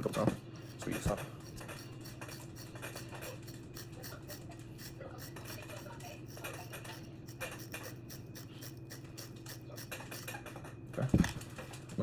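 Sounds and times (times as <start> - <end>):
steady low hum: 0.0 - 12.0
brush scrubbing a gun barrel: 0.6 - 10.3.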